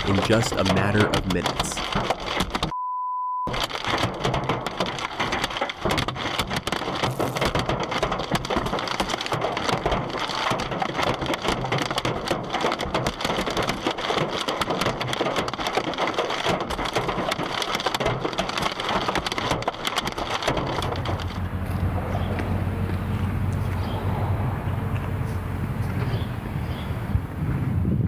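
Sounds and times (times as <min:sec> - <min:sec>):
heavy rain pelting hard surfaces: 0:03.6 - 0:27.4.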